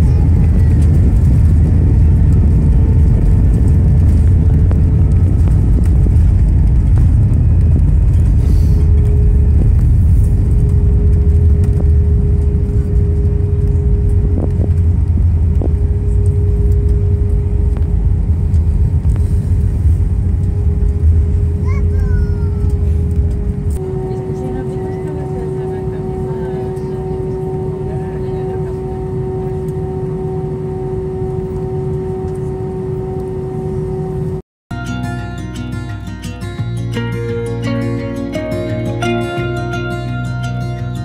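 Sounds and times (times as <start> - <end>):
airplane cabin rumble: 0.0 - 41.0
steady whine: 0.0 - 41.0.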